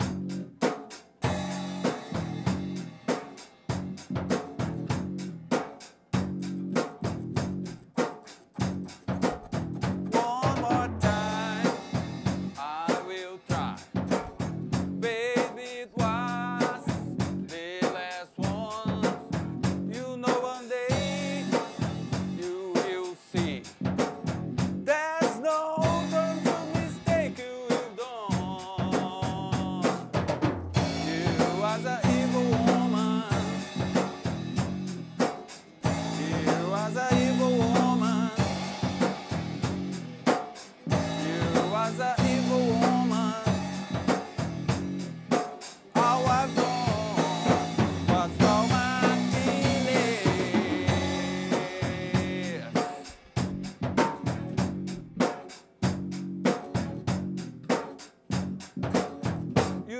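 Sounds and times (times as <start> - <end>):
bass line: 0.0 - 0.6, 1.2 - 3.1, 3.7 - 7.9, 8.6 - 12.8, 13.5 - 15.3, 16.0 - 17.7, 18.4 - 20.2, 20.9 - 22.4, 23.4 - 25.0, 25.8 - 27.5, 28.3 - 55.2, 55.8 - 57.7, 58.3 - 59.9
drum kit beat: 0.0 - 59.9.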